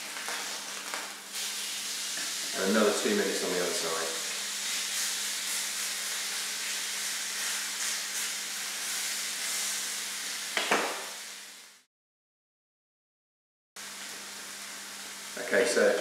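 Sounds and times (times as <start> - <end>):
steak sizzling in a frying pan: 0.0 - 11.8, 13.8 - 16.0.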